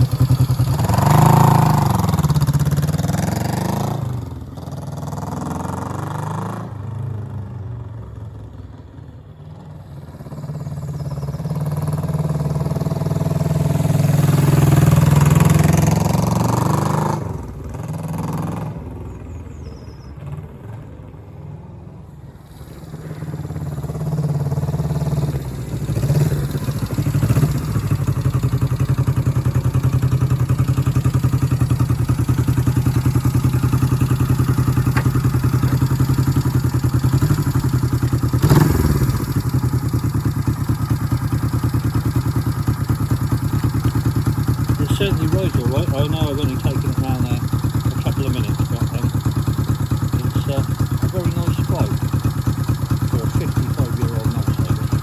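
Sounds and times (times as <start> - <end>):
motorcycle engine passing: 0.0 - 55.0.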